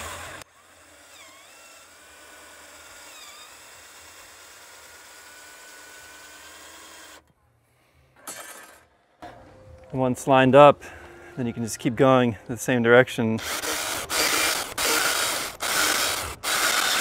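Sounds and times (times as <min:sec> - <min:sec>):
faint outdoor background: 0:00.0 - 0:17.0.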